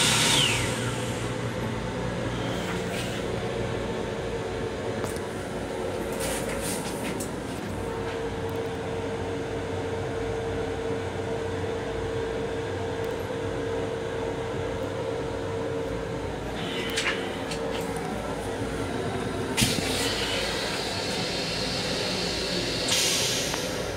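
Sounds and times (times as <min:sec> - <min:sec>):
steady hum: 0:00.0 - 0:23.9
train rumble and hiss: 0:00.0 - 0:23.9.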